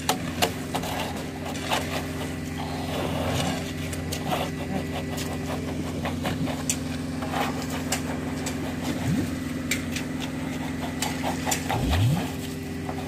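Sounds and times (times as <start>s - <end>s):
concrete pump engine running: 0.0s - 13.0s.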